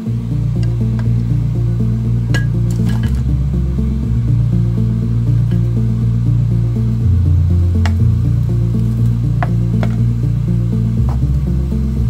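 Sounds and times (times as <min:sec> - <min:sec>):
background music with low notes: 0:00.0 - 0:12.0.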